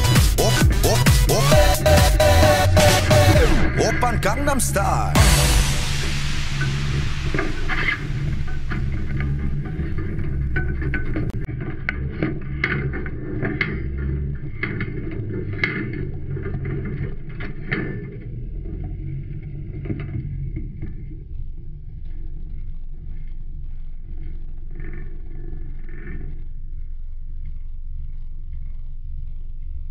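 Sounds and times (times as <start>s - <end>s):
engine low drone: 0.0s - 29.9s.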